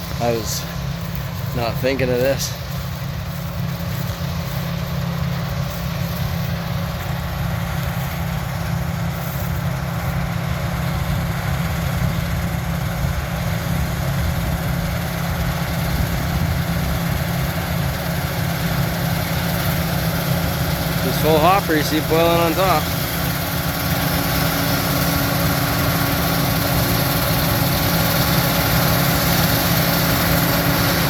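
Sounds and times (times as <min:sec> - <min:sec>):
diesel engines droning: 0:00.0 - 0:31.0.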